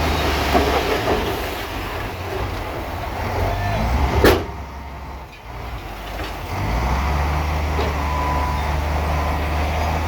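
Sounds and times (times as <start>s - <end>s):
heavy diesel engine running: 0.0s - 10.0s.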